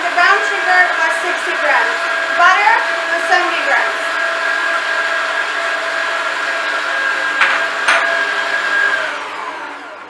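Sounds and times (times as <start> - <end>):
paddle beating butter and sugar: 0.0 - 10.0
stand mixer motor whine: 0.0 - 10.0.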